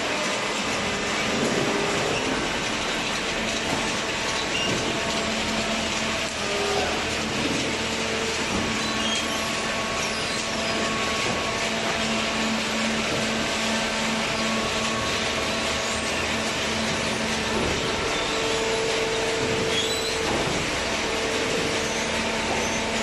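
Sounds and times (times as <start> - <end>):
baler machinery running: 0.0 - 23.0.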